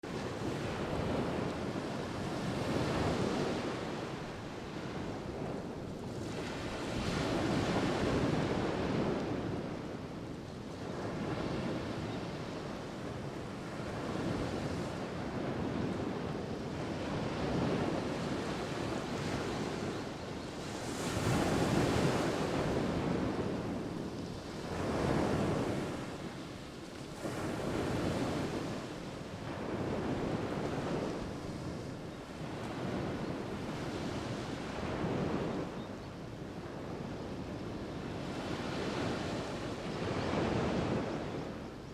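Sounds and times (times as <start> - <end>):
sea waves breaking on shore: 0.0 - 41.9.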